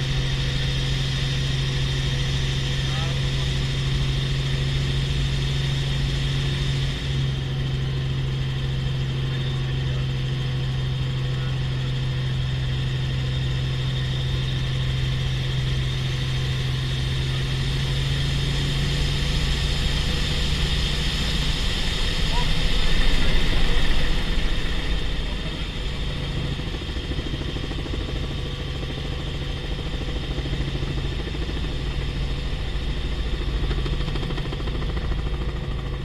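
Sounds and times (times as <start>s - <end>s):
helicopter engine and rotor drone: 0.0s - 36.0s.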